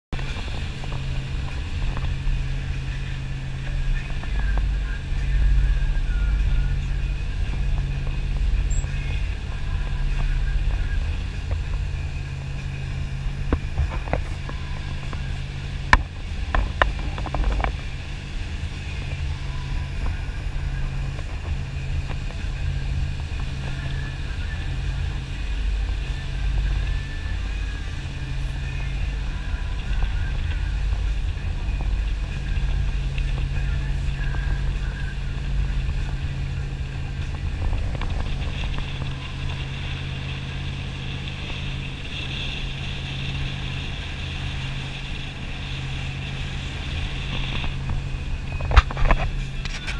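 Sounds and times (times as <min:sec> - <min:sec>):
boat engine drone: 0:00.0 - 0:49.9
rushing wind and water: 0:00.0 - 0:49.9.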